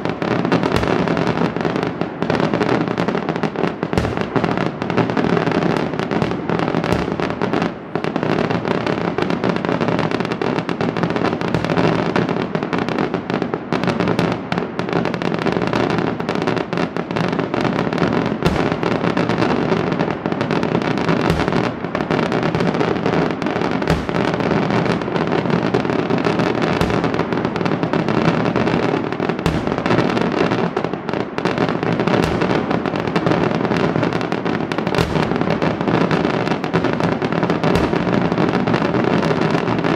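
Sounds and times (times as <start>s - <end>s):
deep firework booms: 0.0s - 14.6s, 15.9s - 39.9s
rapid firecracker bangs: 0.0s - 39.9s.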